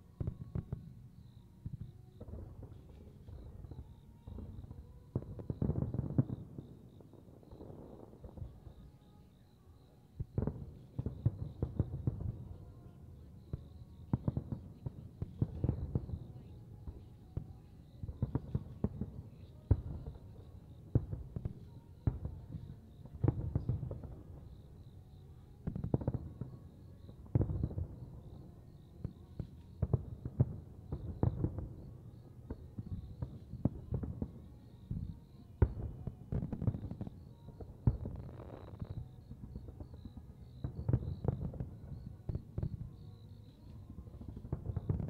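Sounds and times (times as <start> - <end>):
fireworks bursting: 0.0 - 45.0.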